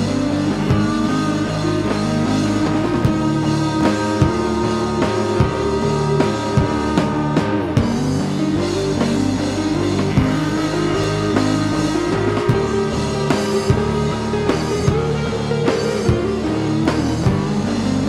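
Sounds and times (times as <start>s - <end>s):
alternative rock song: 0.0s - 18.0s.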